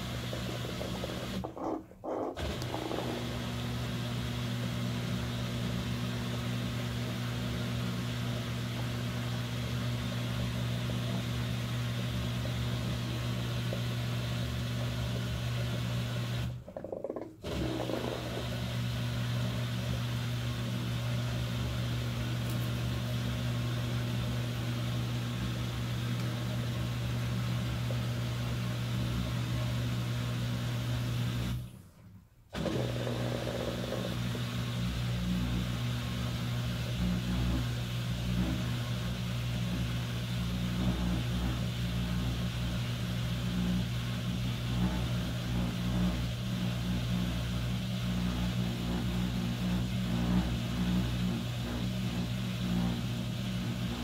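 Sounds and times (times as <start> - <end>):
washing machine motor humming: 0.0 - 54.0.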